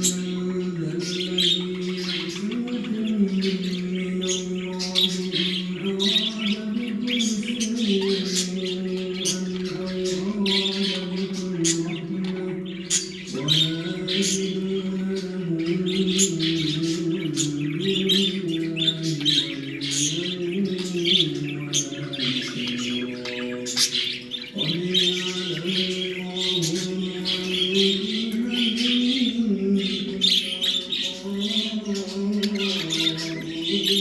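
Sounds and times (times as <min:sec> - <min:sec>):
cage birds chirping and squawking: 0:00.0 - 0:34.0.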